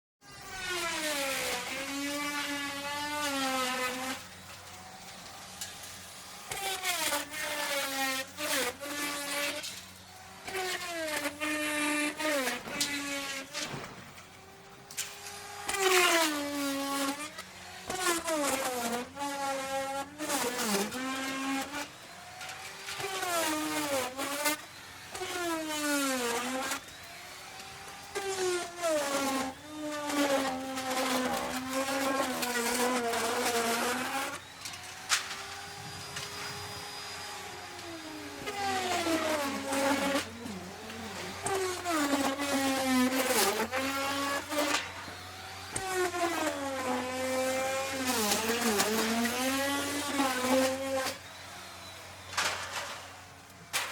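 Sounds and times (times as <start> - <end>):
wood router cutting: 0.2 - 53.9.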